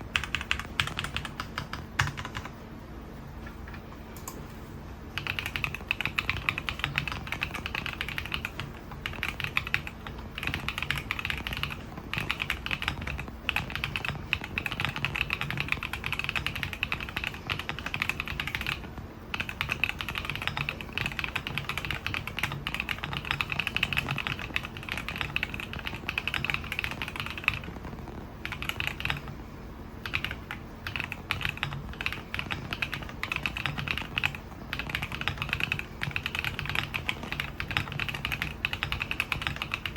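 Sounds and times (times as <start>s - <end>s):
mechanical keyboard typing: 0.0s - 2.6s, 5.2s - 29.3s, 30.0s - 39.9s.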